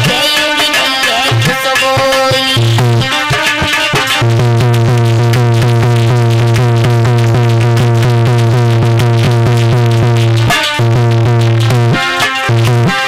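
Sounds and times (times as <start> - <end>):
keyboard melody notes: 0.0 - 13.0.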